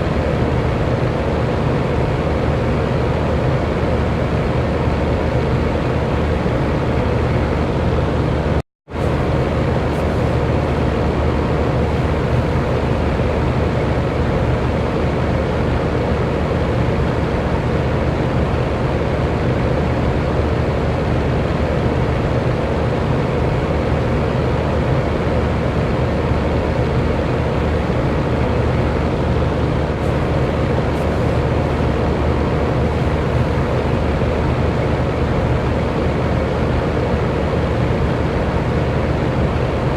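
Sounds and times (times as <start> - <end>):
electric fan whooshing: 0.0 - 39.9.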